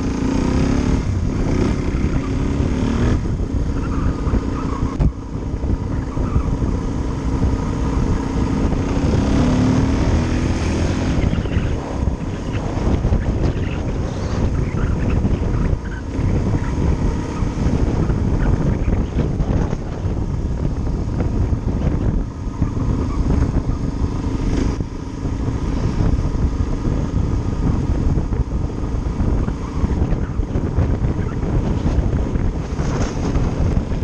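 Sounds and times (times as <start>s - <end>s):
motorcycle engine running: 0.0s - 34.0s
wind buffeting microphone: 0.0s - 34.0s.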